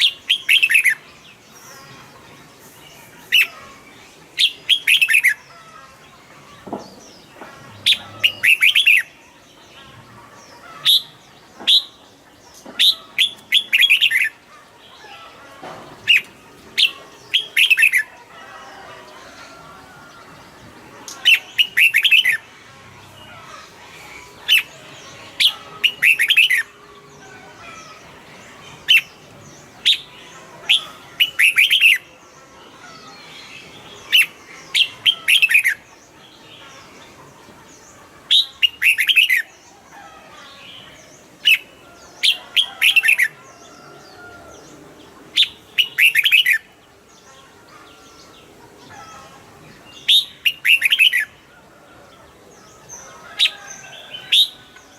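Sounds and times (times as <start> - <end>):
faint background chatter: 0.0 - 54.9.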